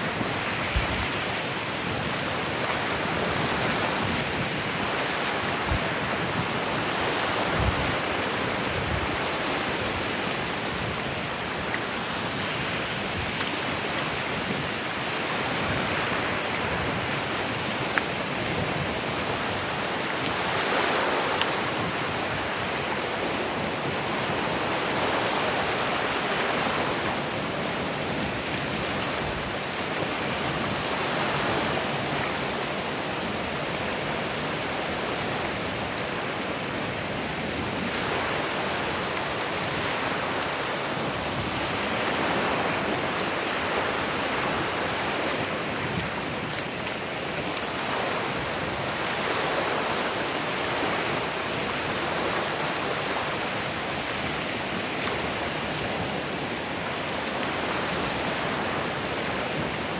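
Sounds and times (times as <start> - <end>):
ocean surf washing up beach: 0.0 - 59.9.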